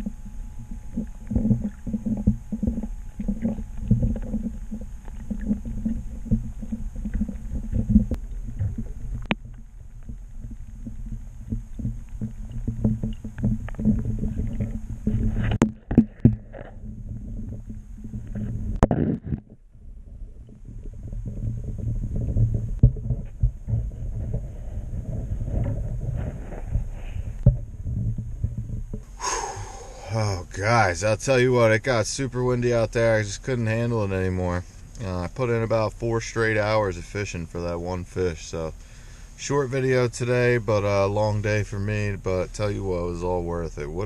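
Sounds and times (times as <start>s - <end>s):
underwater rumble: 0.0s - 44.0s.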